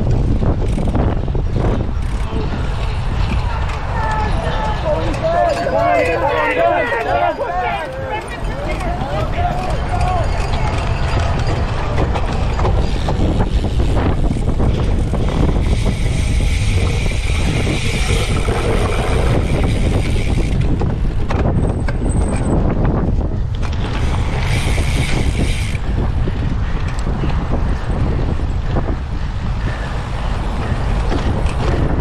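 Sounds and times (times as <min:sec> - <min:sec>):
bike rattle and tyre noise: 0:00.0 - 0:32.0
wind buffeting microphone: 0:00.0 - 0:32.0.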